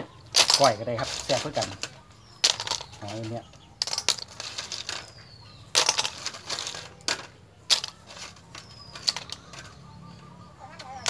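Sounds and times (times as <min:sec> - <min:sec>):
snail shells clattering in metal bowl: 0:00.1 - 0:09.8.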